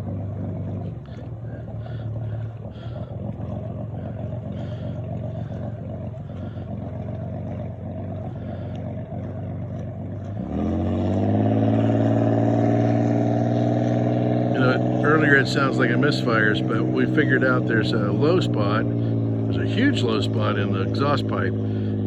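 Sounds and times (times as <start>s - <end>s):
boat engine running unevenly: 0.0s - 22.0s.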